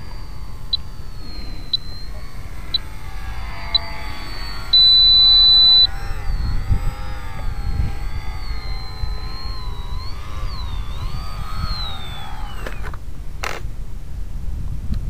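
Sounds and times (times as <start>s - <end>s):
model plane motor whine: 0.0s - 13.9s.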